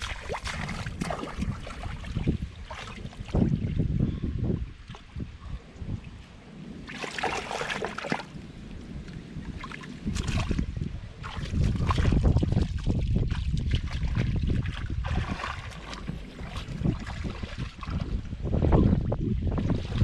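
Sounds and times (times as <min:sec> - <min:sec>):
muddy water splashing: 0:00.0 - 0:03.9, 0:06.7 - 0:20.0
wind rumble on microphone: 0:00.0 - 0:20.0.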